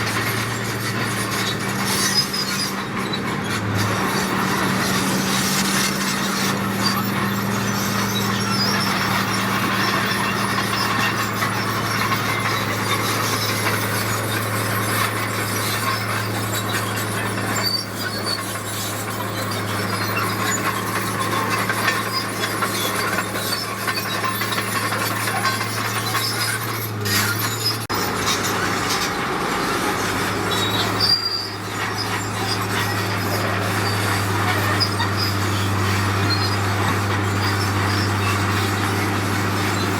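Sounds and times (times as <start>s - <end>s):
heavy machinery engine hum: 0.0s - 39.9s
metallic squealing and scraping: 0.0s - 39.9s.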